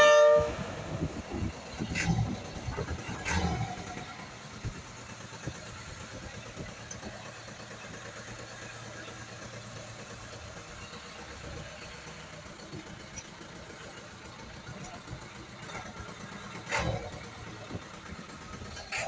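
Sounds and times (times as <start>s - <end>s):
boat engine humming: 0.0s - 19.0s
distant voices: 0.0s - 19.0s.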